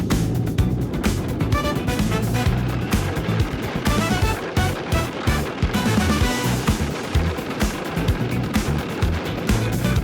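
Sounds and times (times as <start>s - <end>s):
music with steady drum beat: 0.0s - 10.0s.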